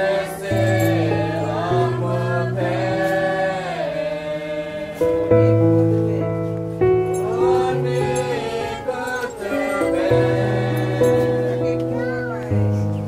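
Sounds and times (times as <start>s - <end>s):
choir singing: 0.0s - 6.4s, 7.1s - 12.0s.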